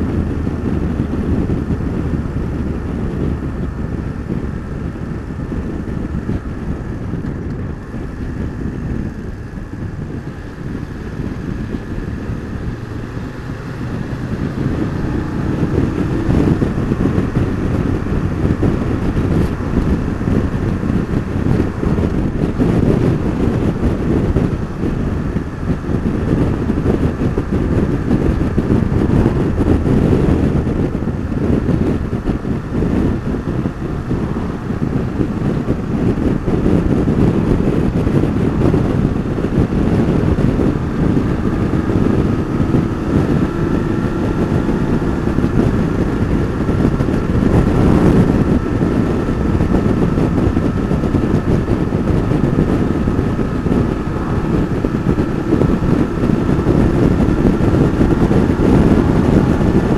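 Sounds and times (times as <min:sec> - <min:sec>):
motorcycle engine accelerating: 0:00.0 - 0:59.9
wind buffeting microphone: 0:00.0 - 0:59.9.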